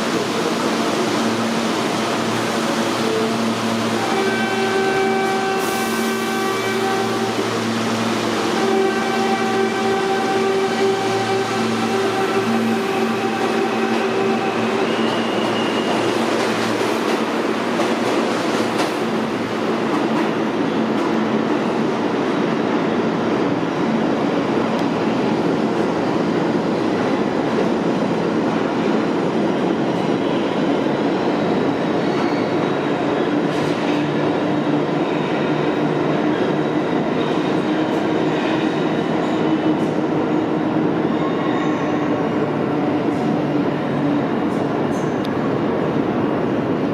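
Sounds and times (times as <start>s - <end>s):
subway train wheels rumbling on rail: 0.0s - 46.9s.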